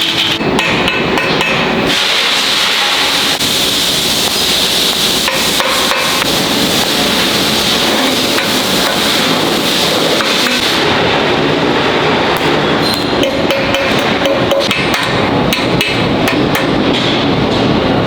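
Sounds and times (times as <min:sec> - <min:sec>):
loud workshop noise: 0:00.0 - 0:18.0.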